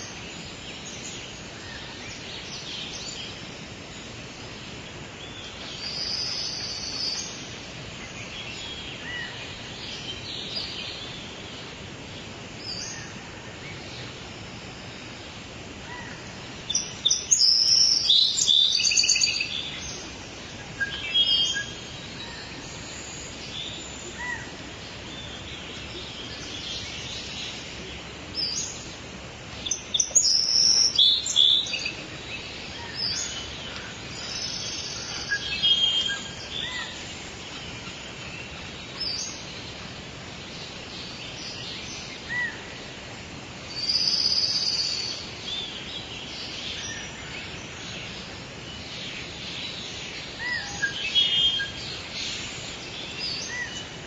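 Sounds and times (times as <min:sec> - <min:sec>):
songbirds chirping and singing: 0:00.0 - 0:54.0
steady background hiss: 0:00.0 - 0:54.0.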